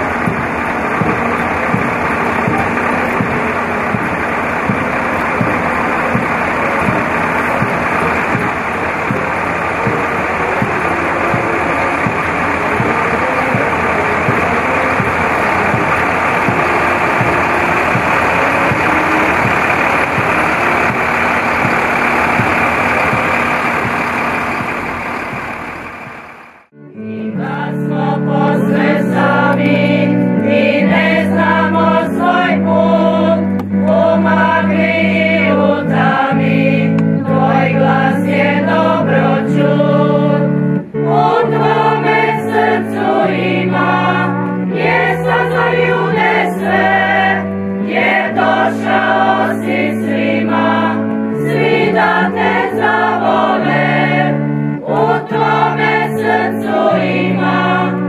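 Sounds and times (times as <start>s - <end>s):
choir singing: 0.0s - 58.0s
vehicle engine running: 0.0s - 58.0s.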